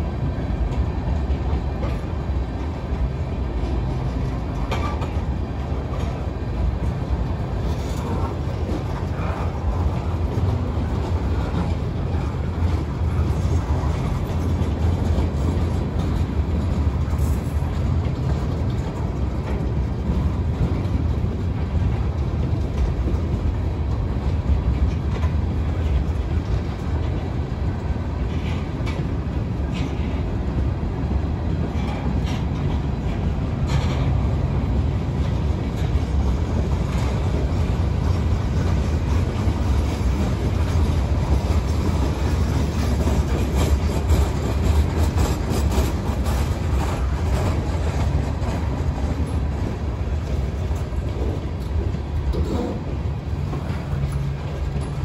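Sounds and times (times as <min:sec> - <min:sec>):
clacks at rail joints: 0:00.0 - 0:55.0
steel wheels rumbling on rail: 0:00.0 - 0:55.0.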